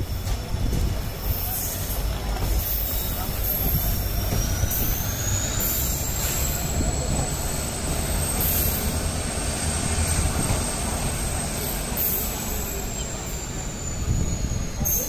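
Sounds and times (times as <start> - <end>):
train rumbling: 0.0 - 15.0
wheel and brake squeal: 0.0 - 15.0.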